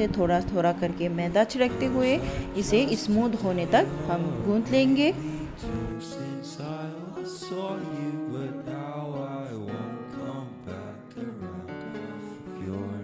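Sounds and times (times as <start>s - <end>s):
melody over held notes: 0.0s - 13.0s.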